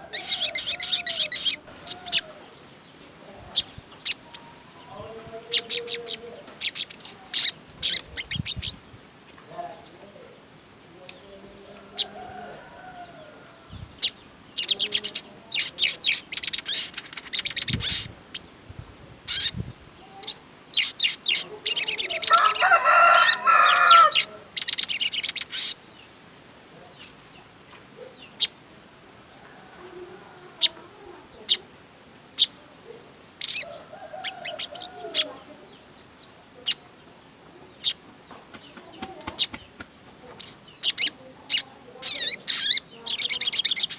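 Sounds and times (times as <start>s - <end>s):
songbird singing chirps and trills: 0.0s - 43.9s.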